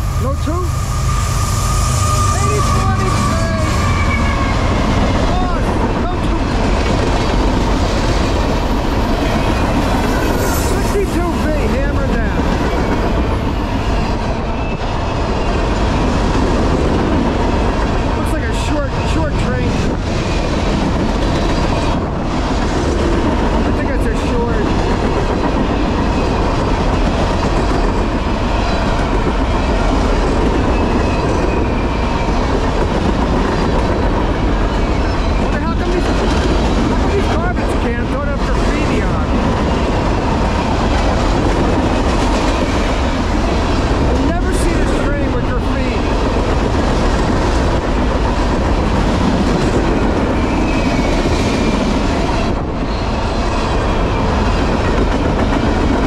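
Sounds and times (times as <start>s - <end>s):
freight cars rumbling on rails: 0.0s - 56.0s.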